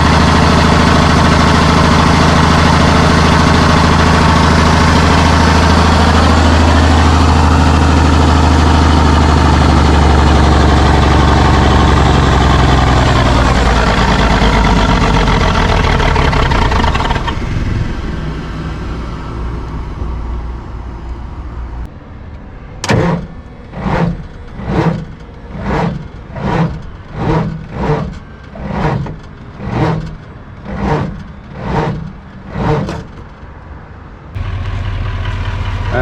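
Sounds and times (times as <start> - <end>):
rushing pulses: 0.0 - 20.6, 22.7 - 33.3
diesel engine running: 0.0 - 36.0.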